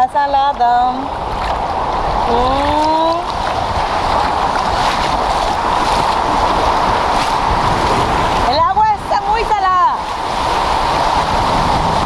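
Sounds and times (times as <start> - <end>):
surf washing on shore: 0.0 - 12.0
wind noise on microphone: 0.0 - 12.0.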